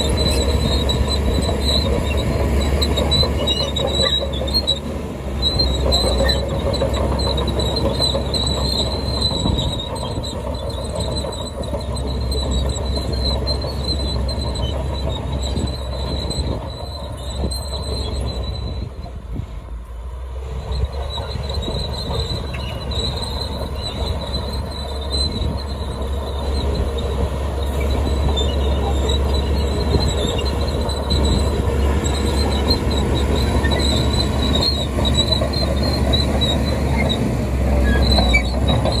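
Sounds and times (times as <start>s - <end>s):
diesel engine drone: 0.0s - 39.0s
steel tracks squealing: 0.0s - 39.0s.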